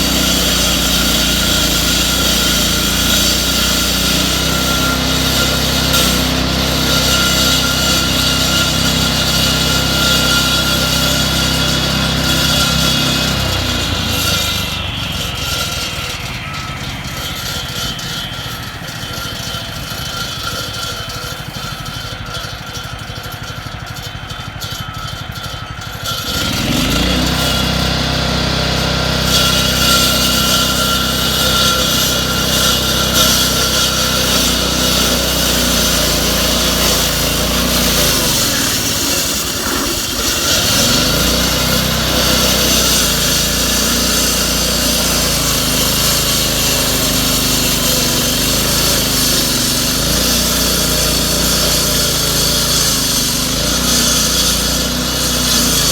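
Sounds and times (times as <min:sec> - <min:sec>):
power tool engine running: 0:00.0 - 0:55.9.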